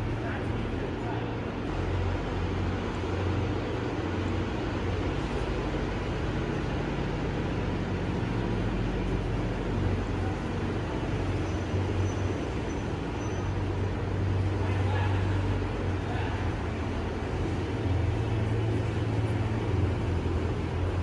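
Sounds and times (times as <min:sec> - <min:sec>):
steady low hum: 0:00.0 - 0:21.0
wash of noise: 0:00.0 - 0:21.0.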